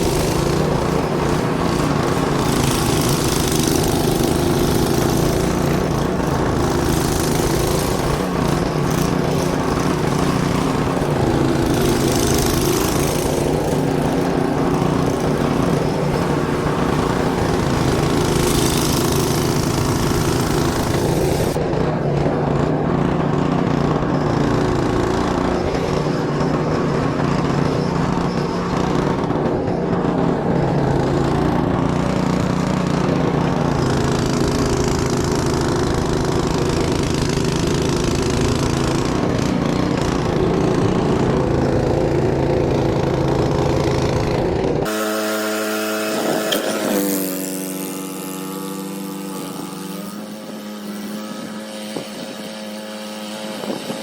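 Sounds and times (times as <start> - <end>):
pitched hum: 0.0 - 54.0
snowblower engine running: 0.0 - 54.0.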